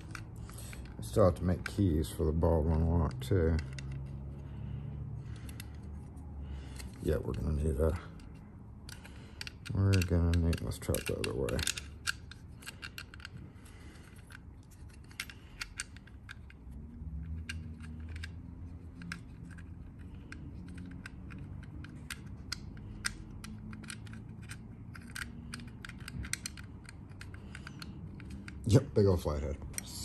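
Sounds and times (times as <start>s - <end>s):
small metallic clicks: 0.0s - 28.8s.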